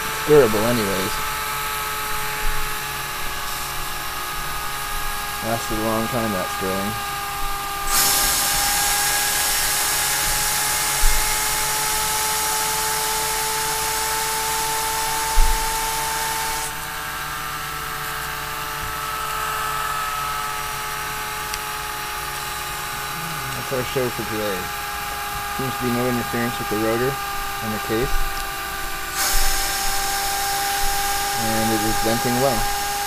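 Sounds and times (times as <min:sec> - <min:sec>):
venting steam hiss: 0:00.0 - 0:17.5, 0:20.5 - 0:33.0
turbine high whine: 0:00.0 - 0:33.0.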